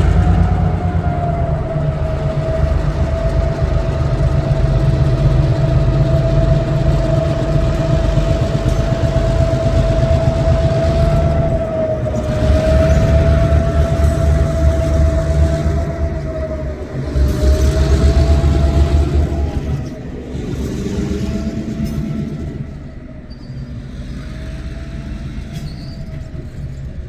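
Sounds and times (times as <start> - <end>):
locomotive engine rumble: 0.0 - 27.0
steady engine whine: 0.0 - 27.0.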